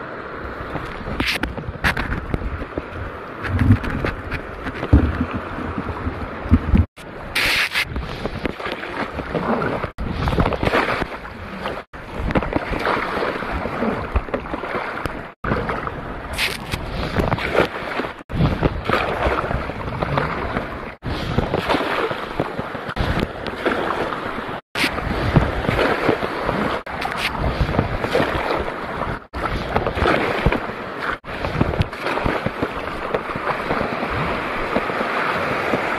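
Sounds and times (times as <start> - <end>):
water sloshing and splashing: 0.6 - 35.9
wind buffeting microphone: 0.7 - 35.9.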